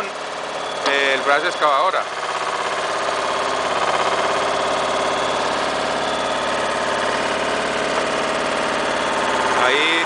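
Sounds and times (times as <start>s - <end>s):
digger engine running: 0.0s - 10.0s.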